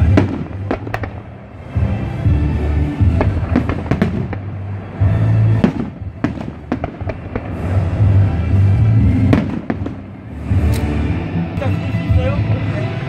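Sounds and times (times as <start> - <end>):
fireworks bursting with bangs: 0.0 - 12.3
music with low sustained notes: 0.0 - 13.0.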